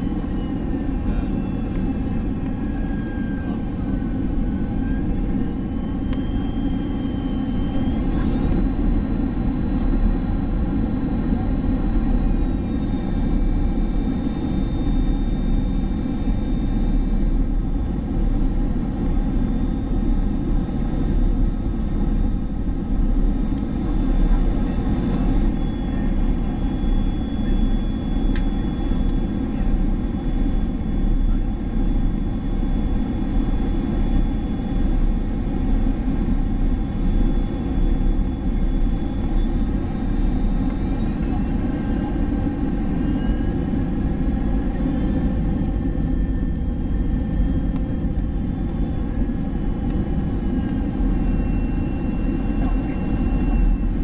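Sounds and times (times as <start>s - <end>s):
airplane cabin rumble: 0.0s - 54.0s
jet engine whine: 0.0s - 54.0s.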